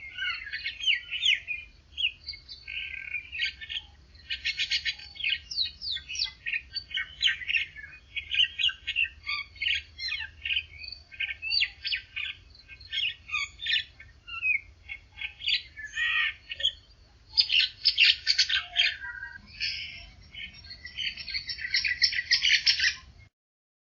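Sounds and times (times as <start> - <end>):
songbirds chirping and trilling: 0.0 - 23.3.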